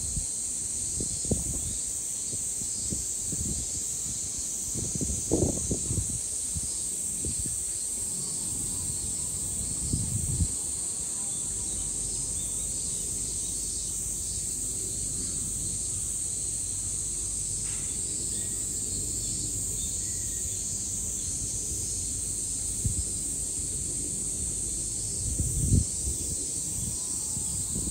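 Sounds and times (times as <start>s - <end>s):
cicadas chorus: 0.0s - 27.9s.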